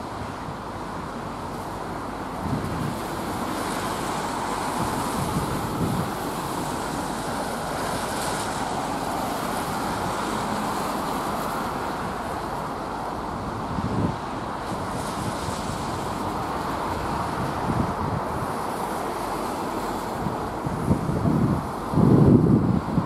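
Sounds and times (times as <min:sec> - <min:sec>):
diesel train passing: 0:00.0 - 0:23.0
wind on microphone: 0:00.0 - 0:23.0.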